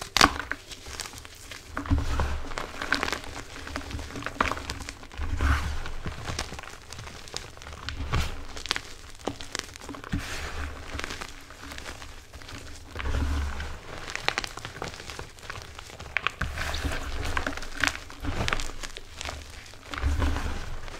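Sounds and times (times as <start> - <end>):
chalk crunching and crumbling: 0.0 - 20.9.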